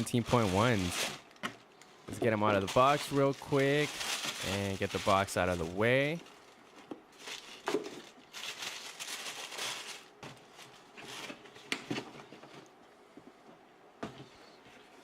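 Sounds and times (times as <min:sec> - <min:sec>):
packaging rustling: 0:00.0 - 0:12.6.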